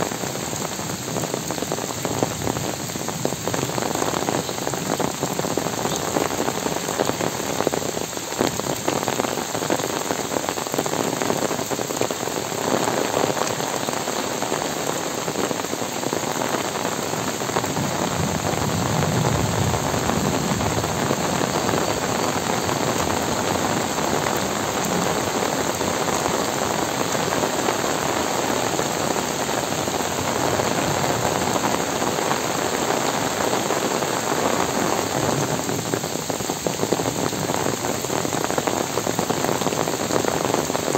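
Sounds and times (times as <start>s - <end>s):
heavy rain on trees: 0.0s - 40.9s.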